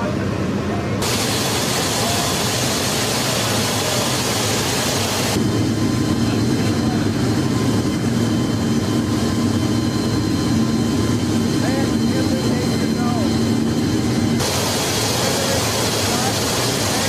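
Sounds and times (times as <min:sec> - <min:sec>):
aircraft cabin engine noise: 0:00.0 - 0:17.0.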